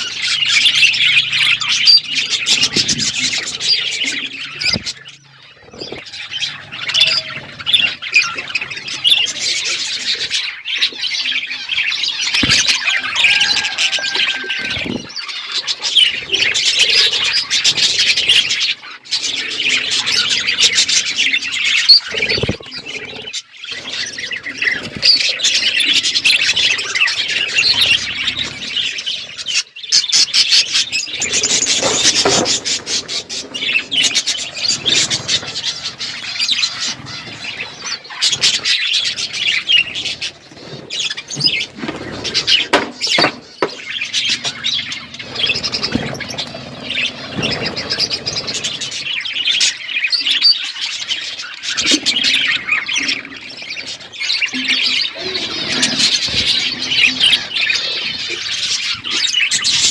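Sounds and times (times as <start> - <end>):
budgerigars chattering: 0.0 - 40.4, 42.4 - 59.9.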